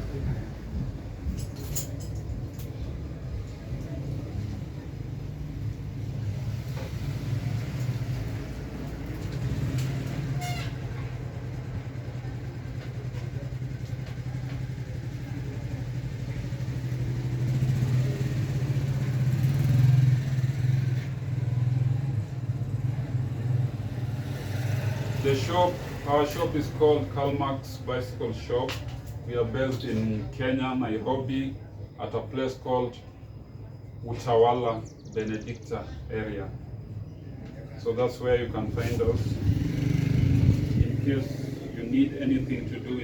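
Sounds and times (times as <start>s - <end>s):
vehicle engine droning: 0.0s - 43.0s.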